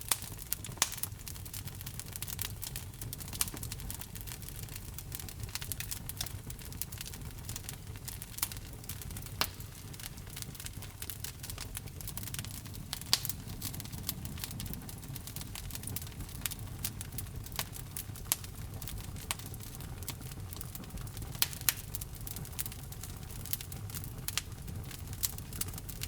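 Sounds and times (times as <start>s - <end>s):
low rumble of flames: 0.0s - 26.0s
wood fire crackling and popping: 0.0s - 26.0s.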